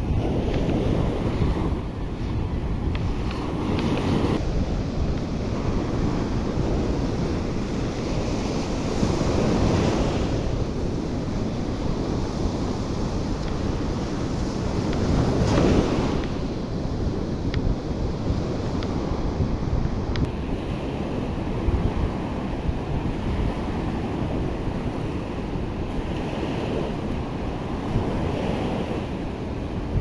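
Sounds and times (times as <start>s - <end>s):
surf breaking on a sandy beach: 0.0s - 30.0s
wind buffeting the microphone: 0.0s - 30.0s.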